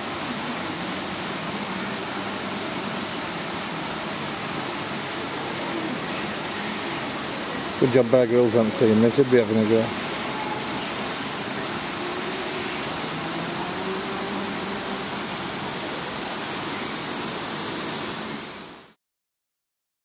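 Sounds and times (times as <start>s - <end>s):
water rushing: 0.0s - 19.0s.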